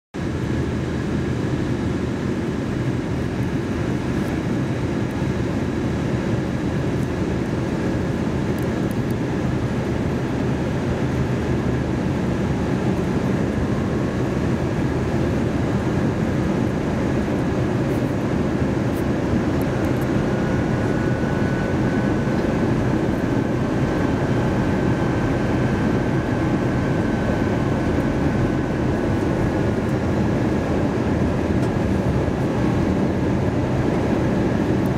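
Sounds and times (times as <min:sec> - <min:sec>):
airliner cabin roar: 0:00.2 - 0:34.9.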